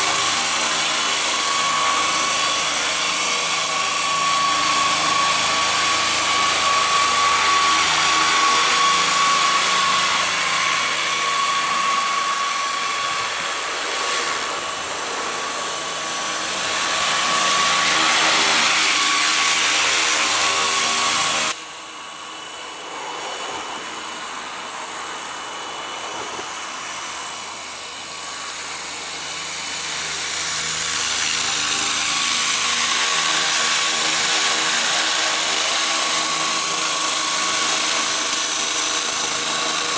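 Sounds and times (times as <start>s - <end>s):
helicopter rotor noise: 0.0s - 39.9s
rc helicopter motor whine: 0.0s - 39.9s.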